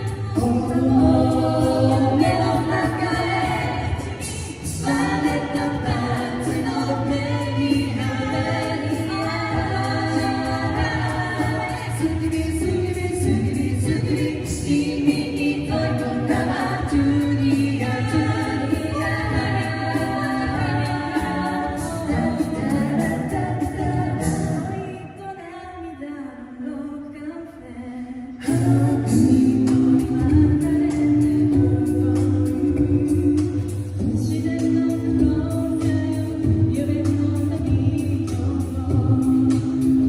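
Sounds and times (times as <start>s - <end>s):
pop song with several singers: 0.0s - 40.0s.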